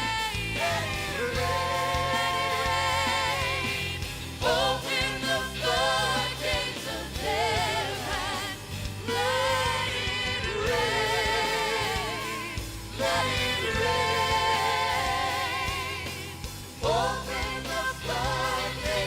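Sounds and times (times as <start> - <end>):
singers holding long notes: 0.0 - 19.0
steady bass line: 0.0 - 19.0
worship band playing live: 0.0 - 19.0.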